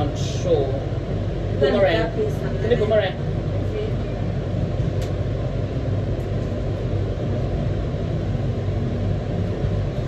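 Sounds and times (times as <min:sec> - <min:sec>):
low rumble with hiss: 0:00.0 - 0:10.0.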